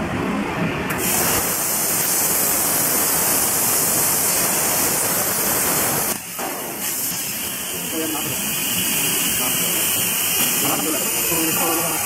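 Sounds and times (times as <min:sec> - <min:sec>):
plasma torch arc hissing: 0:00.9 - 0:12.0.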